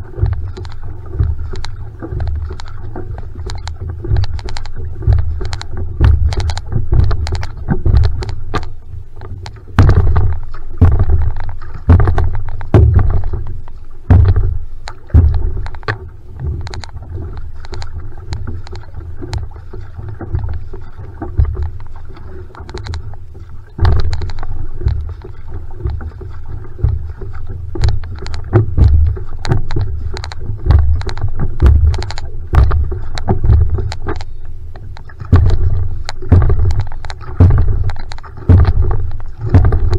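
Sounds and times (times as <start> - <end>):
heavy low rumble: 0.0 - 19.6, 22.6 - 39.9
paddle splashing in water: 0.0 - 39.9.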